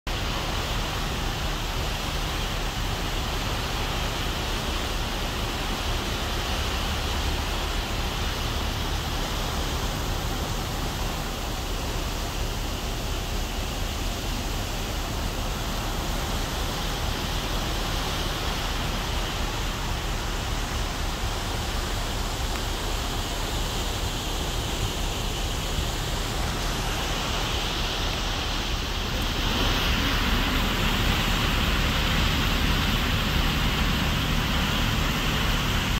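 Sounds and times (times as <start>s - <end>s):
ship engines humming: 0.1s - 35.9s
ship's wake churning: 0.1s - 35.9s.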